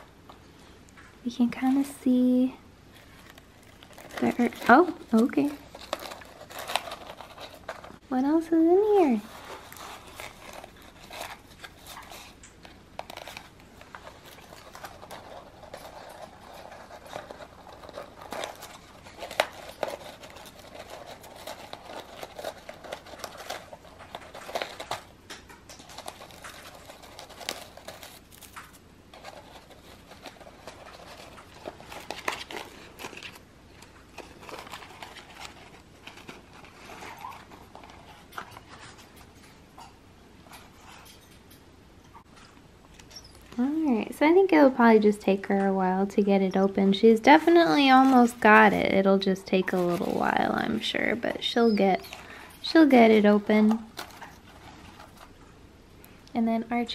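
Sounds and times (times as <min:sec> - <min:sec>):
paper crinkling: 0:02.9 - 0:41.0, 0:46.8 - 0:55.5.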